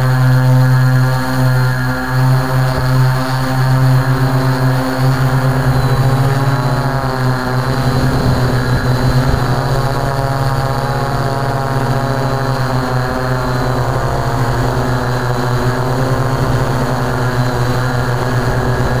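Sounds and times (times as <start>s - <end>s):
quadcopter propellers droning: 0.0s - 19.0s.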